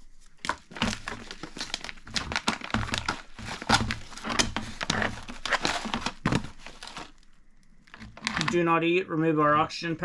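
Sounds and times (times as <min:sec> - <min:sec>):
foil pouch crinkling: 0:00.0 - 0:08.6.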